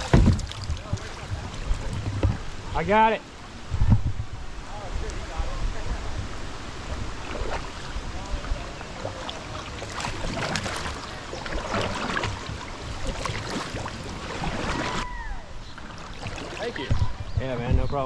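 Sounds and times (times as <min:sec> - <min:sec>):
wind rumbling on microphone: 0:00.0 - 0:15.8, 0:16.4 - 0:18.0
water splashing around kayak: 0:00.0 - 0:17.6.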